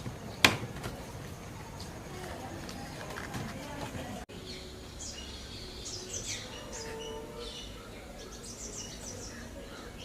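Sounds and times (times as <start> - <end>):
birds chirping: 0.0 - 10.0
low background noise: 0.0 - 10.0.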